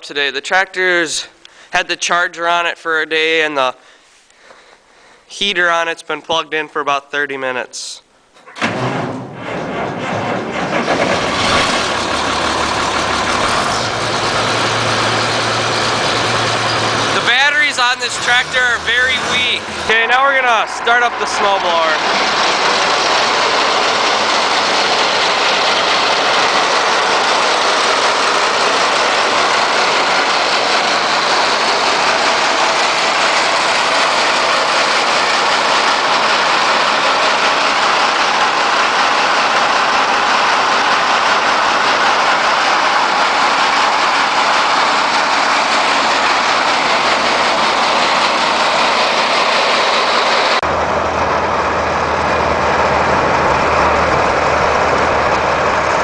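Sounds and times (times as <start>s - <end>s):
diesel tractor engine idling: 10.0s - 56.0s
snowblower rushing whir: 10.5s - 56.0s.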